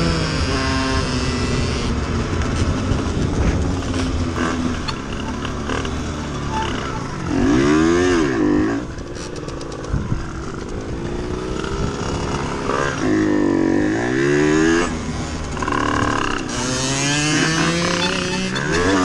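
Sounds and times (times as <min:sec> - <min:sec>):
moped engine revving: 0:00.0 - 0:19.0.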